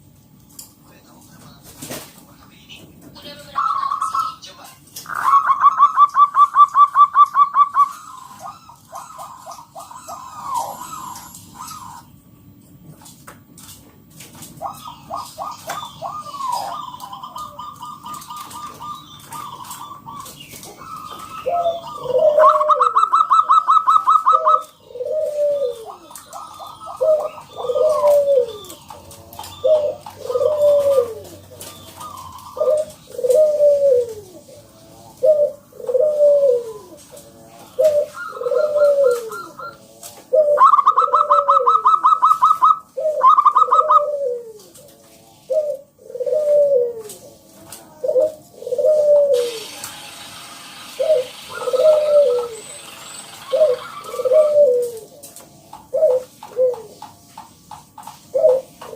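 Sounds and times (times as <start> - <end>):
dove rattling song and coos: 3.0 - 58.9.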